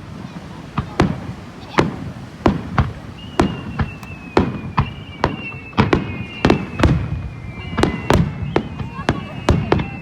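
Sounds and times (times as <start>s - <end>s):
fireworks bangs: 0.0s - 10.0s
fireworks whistling: 0.0s - 10.0s.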